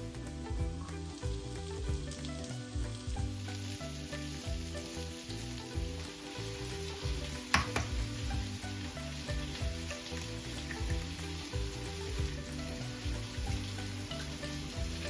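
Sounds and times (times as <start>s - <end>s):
food sizzling in a pan: 0.0s - 15.0s
soft background music: 0.0s - 15.0s.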